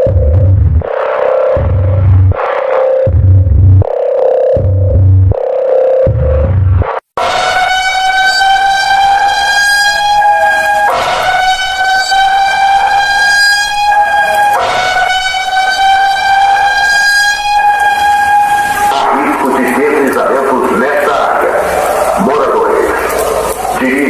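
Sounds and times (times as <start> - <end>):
emergency alarm tone blasts: 0.0 - 24.0.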